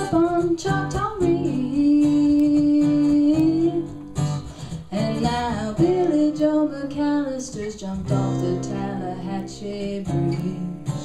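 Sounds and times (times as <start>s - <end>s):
acoustic guitars strumming: 0.0s - 11.0s
woman singing: 0.0s - 11.0s.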